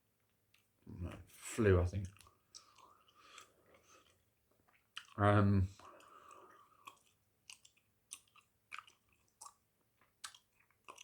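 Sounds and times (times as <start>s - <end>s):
gum chewing clicks and smacks: 2.0s - 11.0s.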